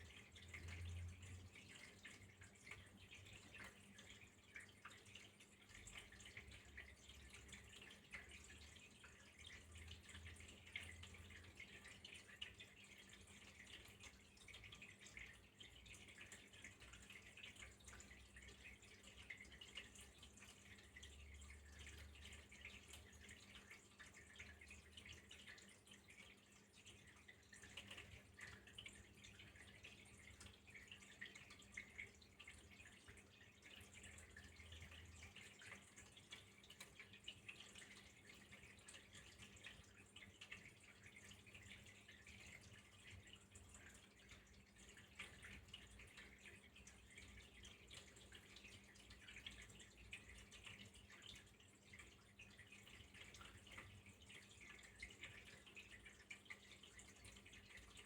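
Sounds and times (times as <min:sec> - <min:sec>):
low steady hum: 0:00.0 - 0:58.0
small drips and splashes: 0:00.0 - 0:58.0
water trickling: 0:00.0 - 0:58.0.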